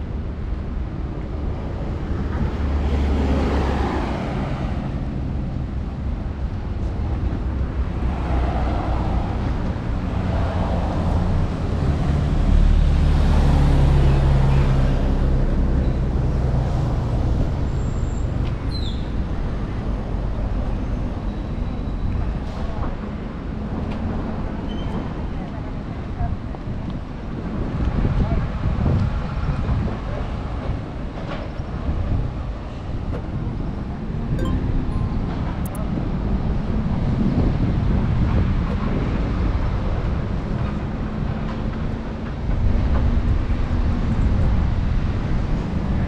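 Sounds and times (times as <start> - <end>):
traffic rumble: 0.0 - 46.0
vehicles passing: 0.1 - 27.9, 30.0 - 46.0.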